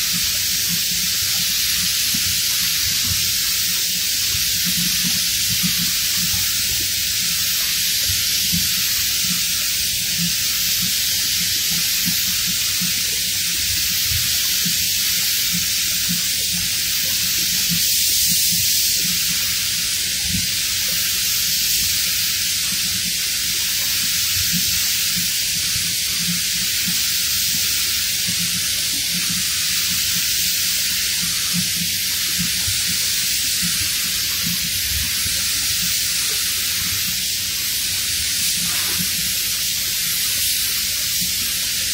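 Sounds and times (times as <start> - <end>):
paint spray gun hissing: 0.0 - 41.9.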